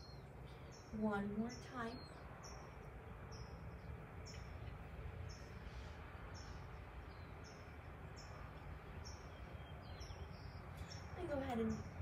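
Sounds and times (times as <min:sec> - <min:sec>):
low outdoor background rumble: 0:00.0 - 0:12.0
small bird chirping: 0:00.0 - 0:12.0.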